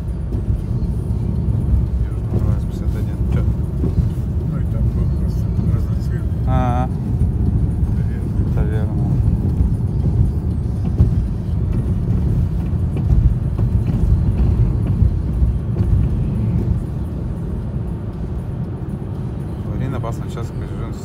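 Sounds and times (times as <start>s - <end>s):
tyre and road noise in car: 0.0s - 21.0s.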